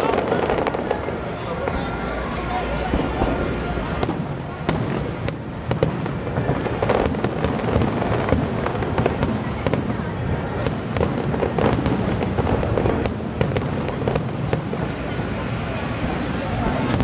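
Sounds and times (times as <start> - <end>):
fireworks booming: 0.0 - 17.0
fireworks sharp cracks: 0.0 - 17.0.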